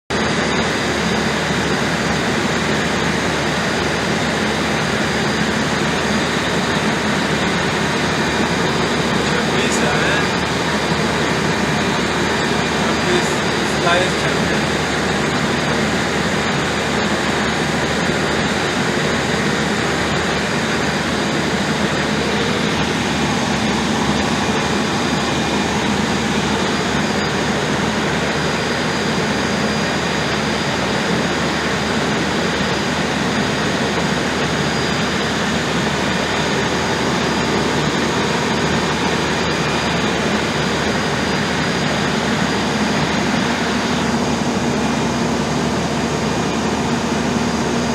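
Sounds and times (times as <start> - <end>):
generator engine drone: 0.1 - 47.9.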